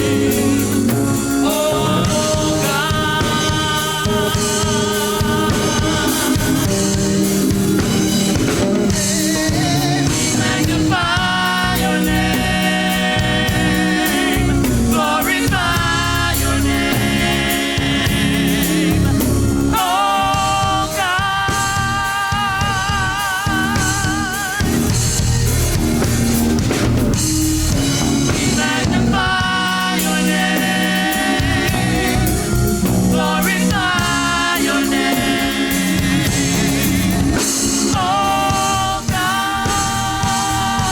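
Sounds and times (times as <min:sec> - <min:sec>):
singer with wide vibrato: 0:00.0 - 0:07.1, 0:08.9 - 0:25.3, 0:28.2 - 0:40.9
band with drums and bass: 0:00.0 - 0:40.9.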